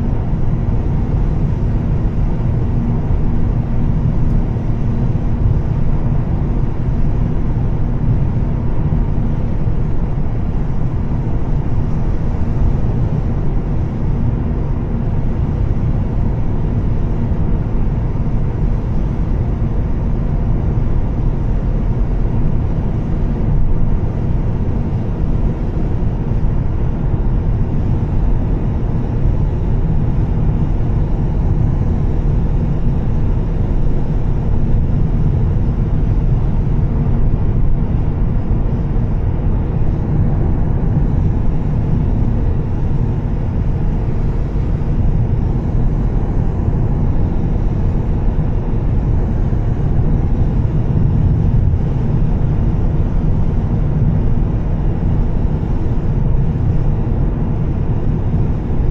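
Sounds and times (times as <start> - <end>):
car engine and exhaust rumble: 0.0 - 58.9.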